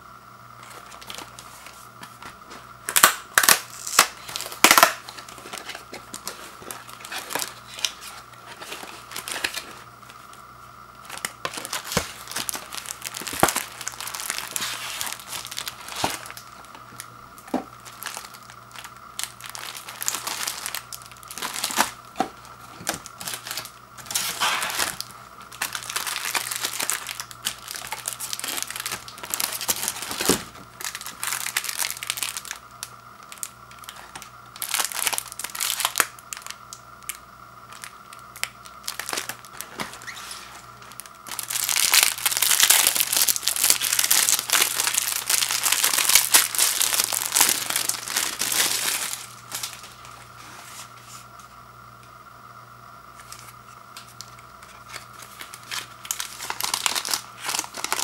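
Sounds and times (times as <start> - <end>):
plastic wrapper crinkling: 0.6 - 10.4, 11.0 - 50.3, 53.2 - 58.0.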